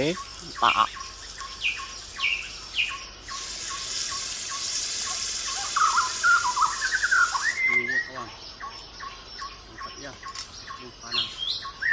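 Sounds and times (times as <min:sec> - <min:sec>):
bird chirping: 0:00.0 - 0:11.9
birds twittering: 0:00.0 - 0:11.9
steady high hiss: 0:00.0 - 0:11.9.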